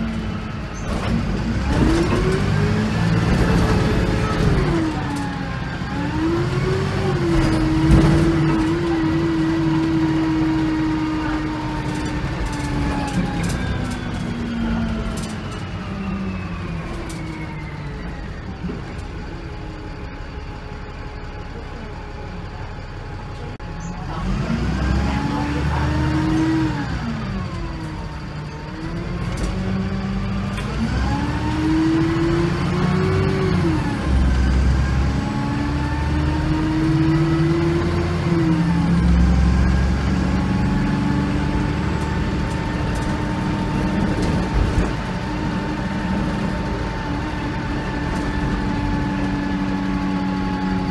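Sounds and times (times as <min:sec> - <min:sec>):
bus diesel engine: 0:00.0 - 0:50.9.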